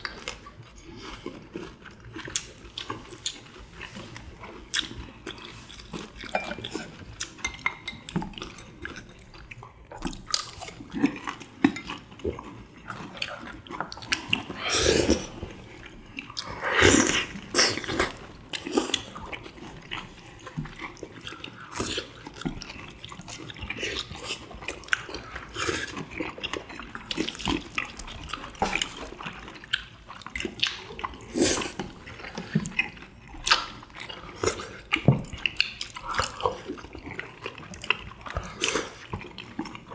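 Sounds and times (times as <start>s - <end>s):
chewing and slurping: 0.0s - 39.9s.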